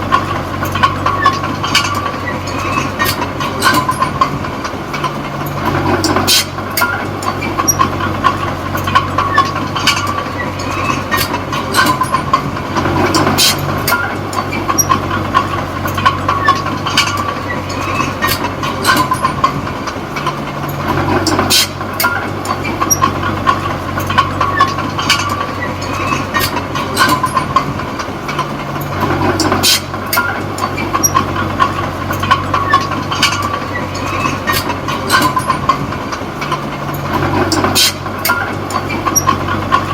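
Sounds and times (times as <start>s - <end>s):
bulldozer diesel engine running: 0.0s - 39.9s
steel tracks clanking and squeaking: 0.0s - 39.9s.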